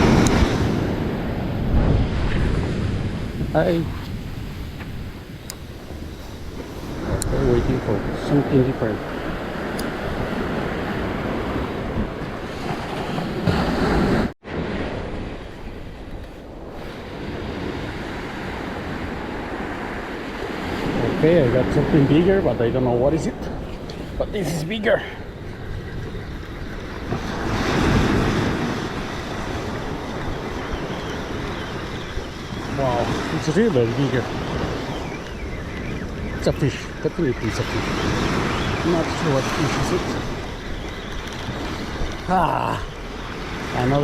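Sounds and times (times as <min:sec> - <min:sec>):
surf washing onto beach: 0:00.0 - 0:44.0
wind buffeting microphone: 0:00.0 - 0:44.0.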